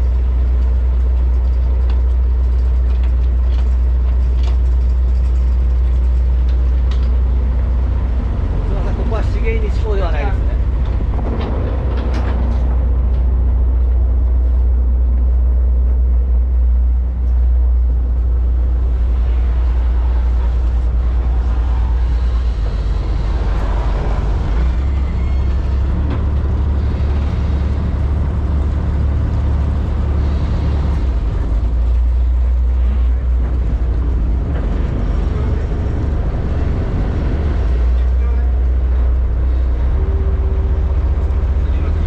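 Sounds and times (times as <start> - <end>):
boat engines droning: 0.0 - 42.0.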